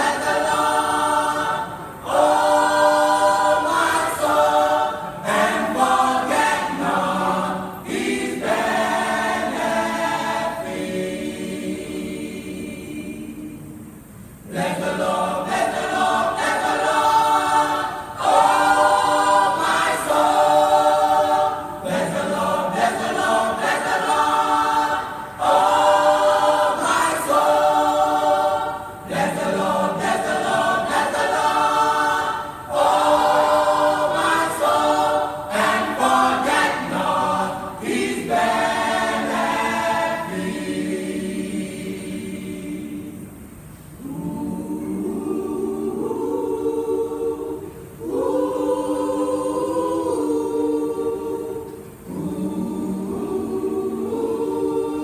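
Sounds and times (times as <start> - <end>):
church choir singing: 0.0 - 55.0.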